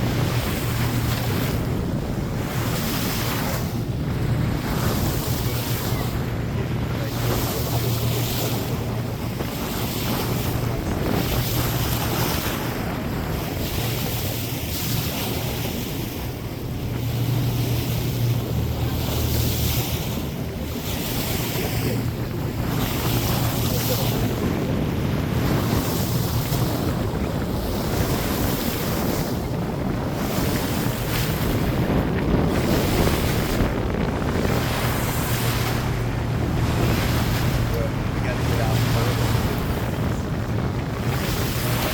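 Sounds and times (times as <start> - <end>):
boat engine hum: 0.0 - 41.9
water splashing along hull: 0.0 - 41.9
wind buffeting microphone: 0.0 - 41.9.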